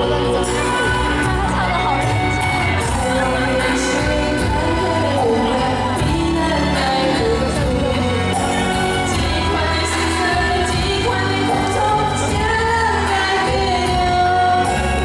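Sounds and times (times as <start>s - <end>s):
pop backing track: 0.0s - 15.0s
girl singing into a microphone: 2.8s - 15.0s.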